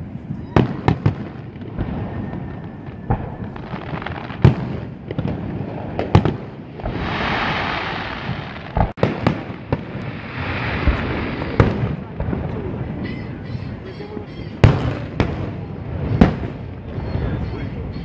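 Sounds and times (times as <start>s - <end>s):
fireworks bangs: 0.0s - 17.9s
crackling fireworks hiss: 0.0s - 18.0s.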